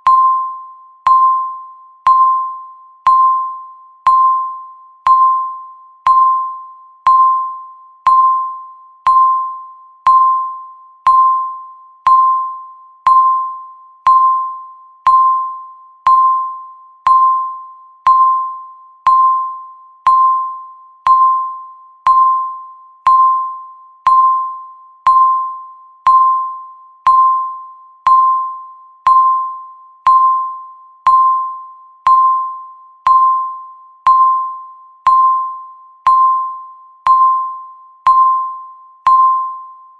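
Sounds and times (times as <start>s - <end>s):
bell-like timer tick: 0.0s - 39.9s.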